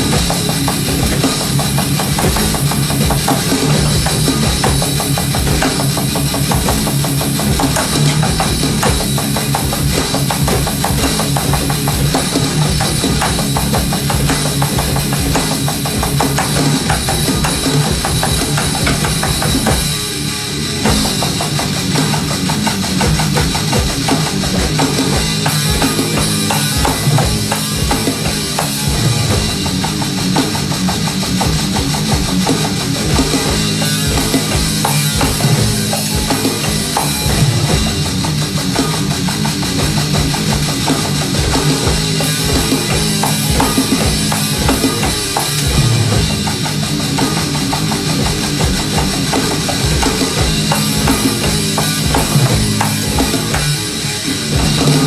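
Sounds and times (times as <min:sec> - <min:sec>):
fast drum kit: 0:00.0 - 0:55.0
rock band playing: 0:00.0 - 0:55.0.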